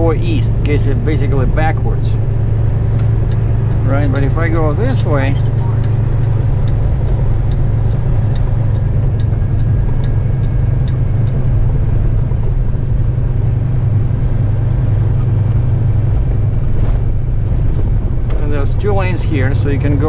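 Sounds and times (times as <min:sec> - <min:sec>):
light regular ticking: 0:00.0 - 0:16.4
road noise: 0:00.0 - 0:20.0
truck diesel engine droning: 0:00.0 - 0:20.0.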